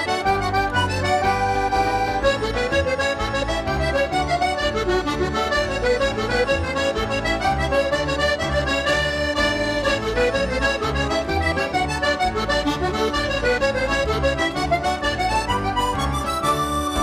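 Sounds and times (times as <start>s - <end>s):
accordion music: 0.0s - 17.0s.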